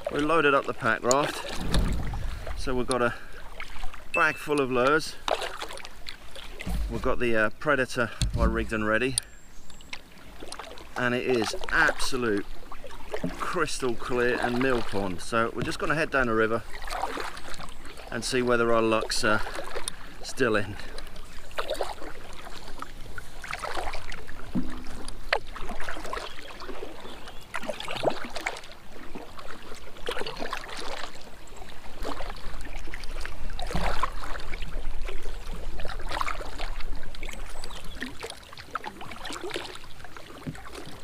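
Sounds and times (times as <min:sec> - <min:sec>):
paddle strokes splashing in water: 0:00.0 - 0:41.0.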